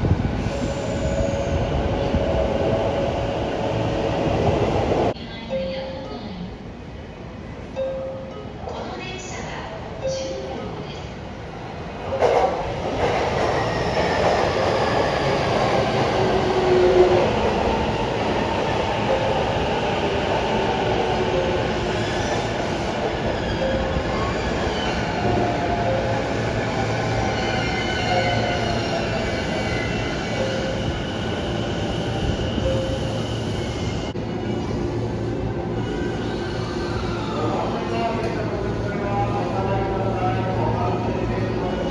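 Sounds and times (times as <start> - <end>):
train rolling noise: 0.0 - 5.2, 6.6 - 41.9.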